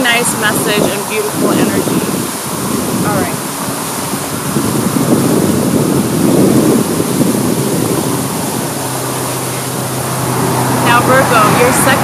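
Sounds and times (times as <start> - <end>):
water fountain splashing: 0.0 - 12.0
wind buffeting microphone: 0.0 - 12.0.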